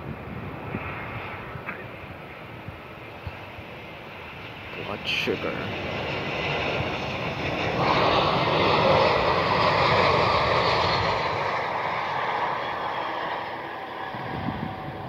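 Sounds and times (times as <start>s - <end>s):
jet engine landing: 0.0s - 15.0s.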